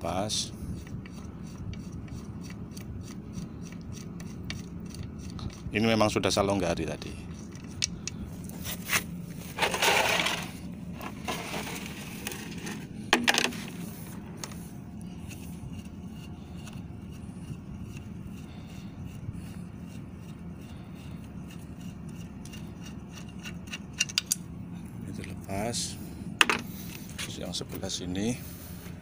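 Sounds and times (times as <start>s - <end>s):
steady low drone: 0.0s - 29.0s.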